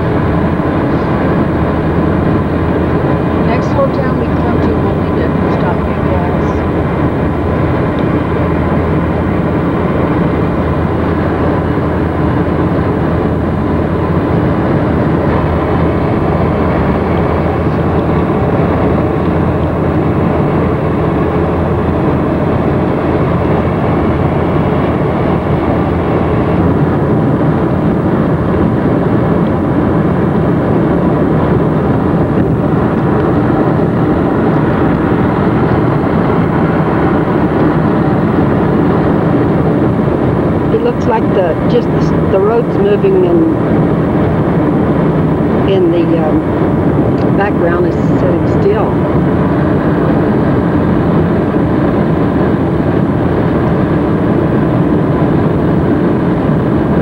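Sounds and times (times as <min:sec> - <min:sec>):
car driving at highway speed: 0:00.0 - 0:57.0.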